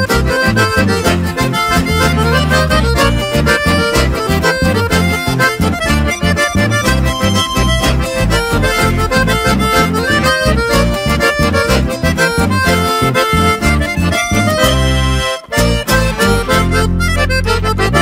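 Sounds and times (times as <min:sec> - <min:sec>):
acoustic guitars strumming rhythm: 0:00.0 - 0:18.0
piano accordion playing folk melody: 0:00.0 - 0:18.0.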